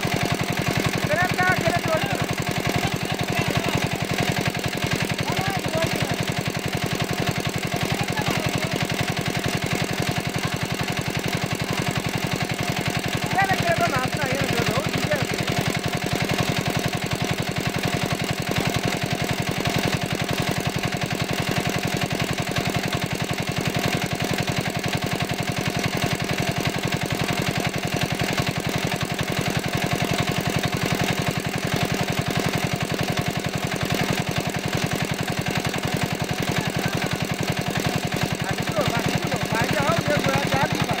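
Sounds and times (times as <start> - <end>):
water pump engine chugging: 0.0 - 41.0.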